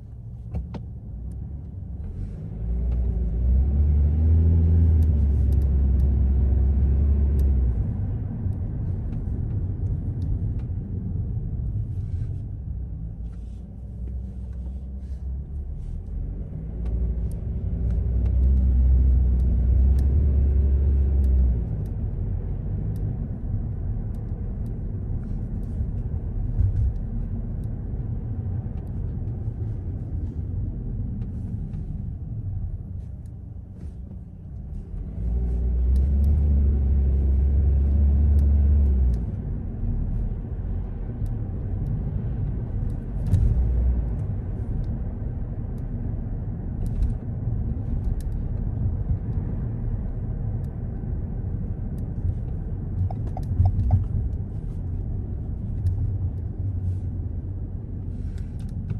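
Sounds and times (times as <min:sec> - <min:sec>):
car engine rumble: 0:00.0 - 0:58.9
road noise: 0:00.0 - 0:58.9.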